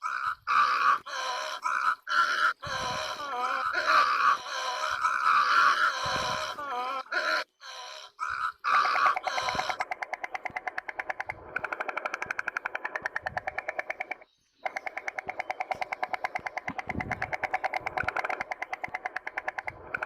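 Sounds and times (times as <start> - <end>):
bird harsh calls: 0.0 - 20.0.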